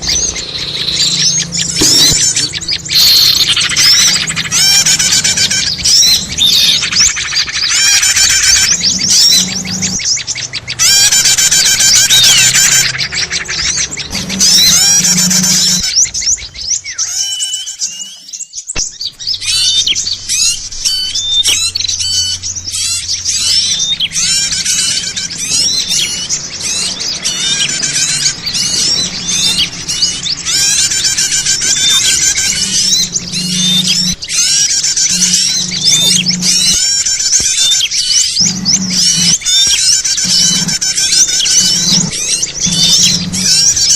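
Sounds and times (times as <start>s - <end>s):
songbirds chirping and trilling: 0.0s - 43.9s.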